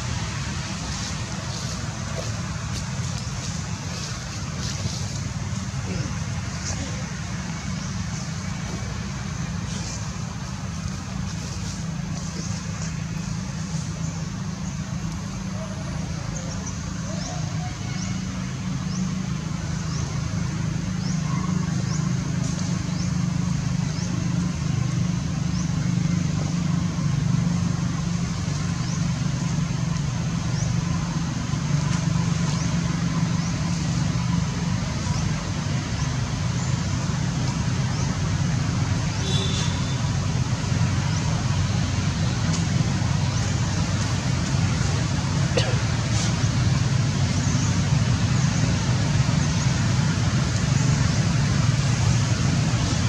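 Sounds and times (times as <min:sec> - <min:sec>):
constant hiss: 0:00.0 - 0:21.0, 0:21.6 - 0:53.0.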